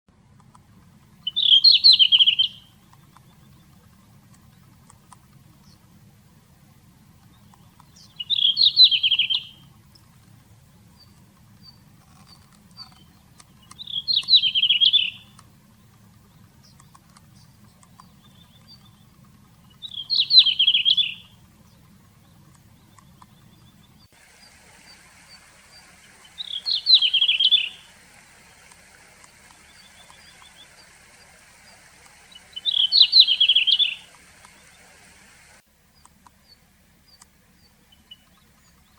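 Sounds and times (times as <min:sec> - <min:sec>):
bird warbling song: 0:01.1 - 0:05.9, 0:07.2 - 0:38.9.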